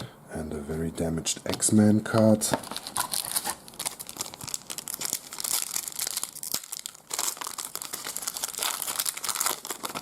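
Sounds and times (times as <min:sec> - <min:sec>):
wrapper crinkling and rustling: 0:01.5 - 0:10.0.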